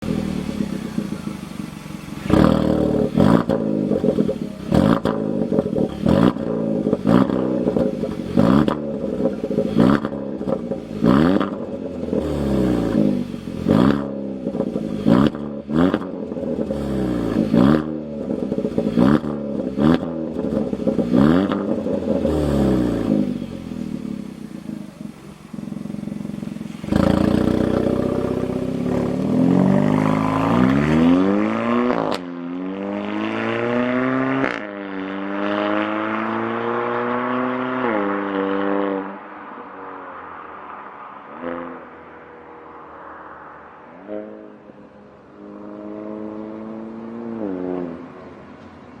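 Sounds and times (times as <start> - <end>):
car engine revving with crackles: 0.0 - 49.0.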